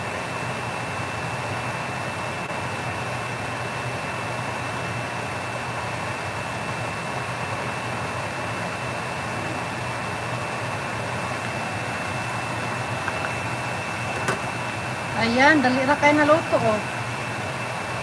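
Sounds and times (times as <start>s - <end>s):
pot boiling hard: 0.0s - 18.0s.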